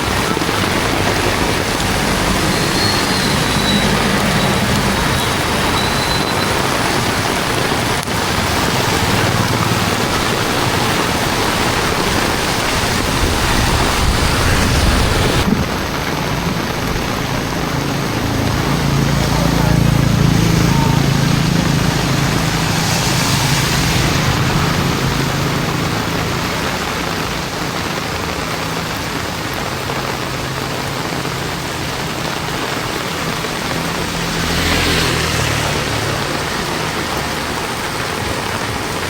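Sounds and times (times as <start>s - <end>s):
heavy rain pouring: 0.0s - 39.0s
low rumble of traffic: 0.0s - 39.0s.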